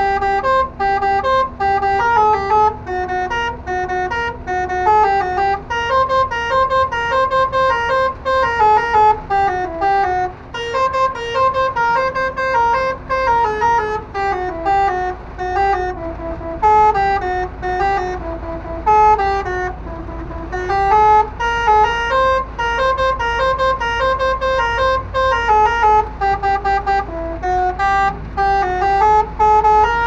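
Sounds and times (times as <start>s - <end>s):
air horn playing tune: 0.0s - 30.0s
truck engine and road rumble: 0.0s - 30.0s.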